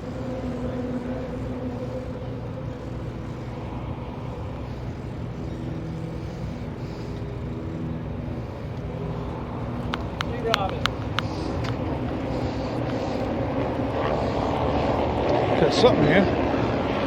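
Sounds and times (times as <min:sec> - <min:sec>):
boat engine droning hum: 0:00.0 - 0:17.0.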